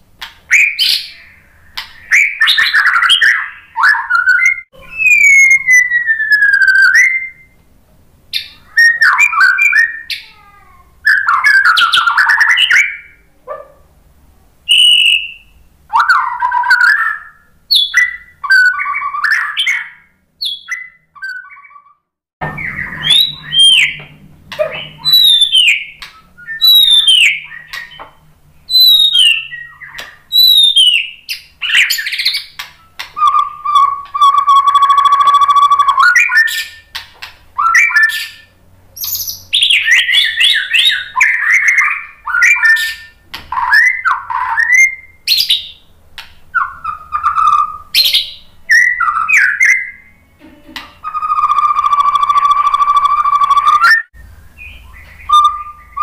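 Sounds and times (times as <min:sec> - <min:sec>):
bird singing: 0:00.5 - 0:07.6, 0:08.3 - 0:13.7, 0:14.7 - 0:37.0, 0:37.6 - 0:50.4, 0:51.0 - 0:56.0.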